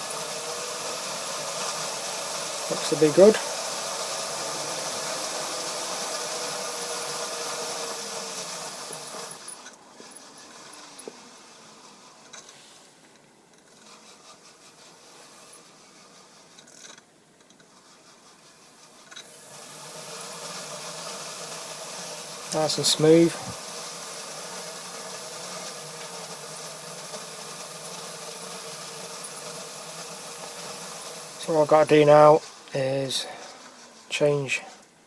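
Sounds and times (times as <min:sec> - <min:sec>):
model train motor whirring: 0:00.0 - 0:35.0.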